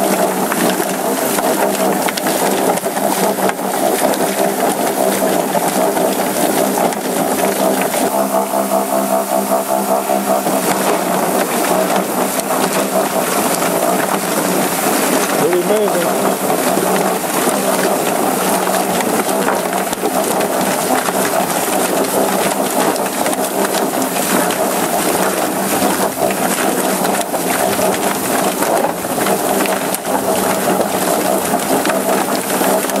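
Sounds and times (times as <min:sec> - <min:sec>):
rapid knocking patter: 0:00.0 - 0:33.0.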